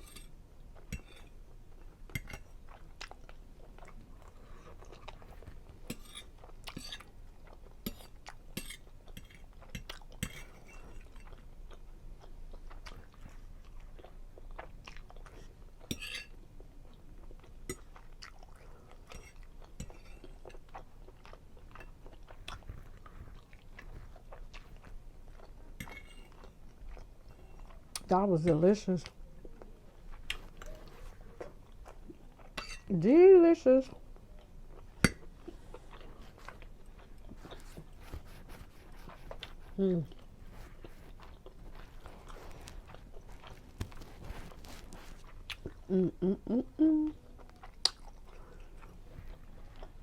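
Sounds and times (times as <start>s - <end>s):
person chewing food: 0.0s - 28.1s, 29.0s - 32.9s, 33.9s - 50.0s.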